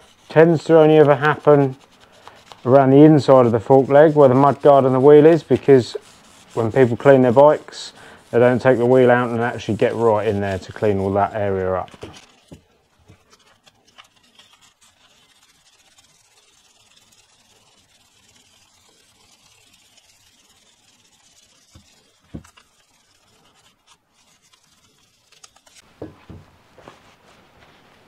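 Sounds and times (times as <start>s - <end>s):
faint rubbing of sandpaper on metal: 0.0s - 25.9s.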